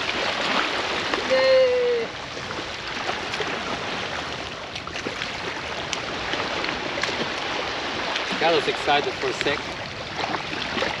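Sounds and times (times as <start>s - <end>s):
rushing water: 0.0s - 11.0s
wind: 0.0s - 11.0s.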